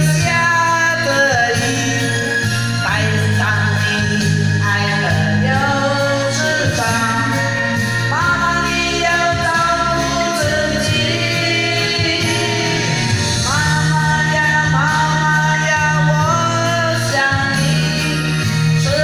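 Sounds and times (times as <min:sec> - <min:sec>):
karaoke backing track: 0:00.0 - 0:19.0
woman singing into microphone: 0:00.0 - 0:19.0.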